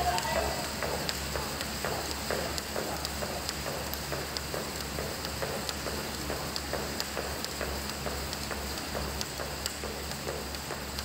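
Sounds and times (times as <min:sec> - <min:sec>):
jump rope tapping wooden board: 0:00.0 - 0:11.0.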